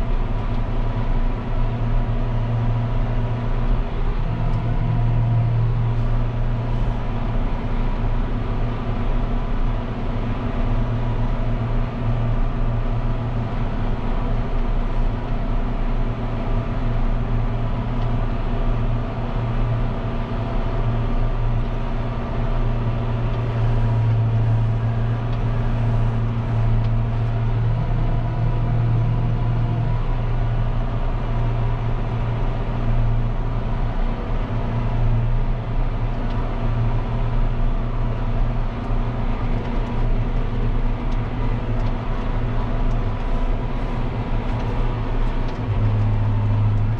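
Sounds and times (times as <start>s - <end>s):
tractor diesel engine drone: 0.0s - 46.9s.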